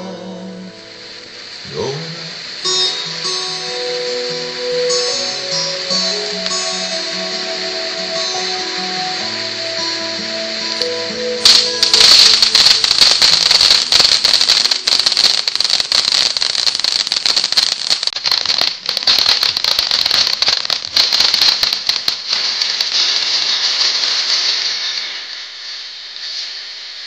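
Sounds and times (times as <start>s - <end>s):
firework crackling: 0.0s - 27.0s
firework fountain hissing: 0.0s - 27.0s.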